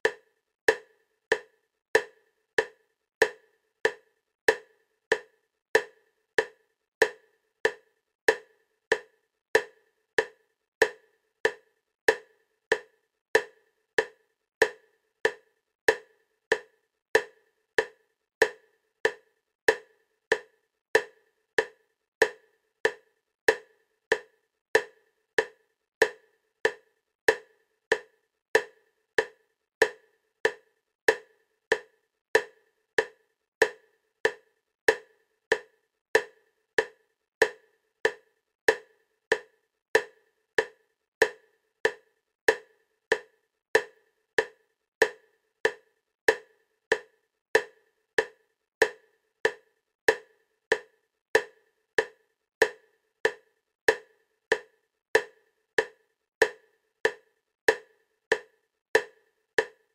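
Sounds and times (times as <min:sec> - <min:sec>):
wood-block-like clicks: 0:00.0 - 0:59.9.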